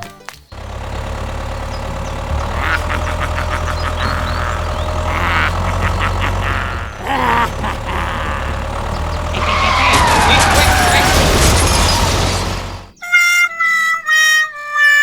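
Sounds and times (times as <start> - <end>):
vehicle engine idling: 0.5 - 13.0.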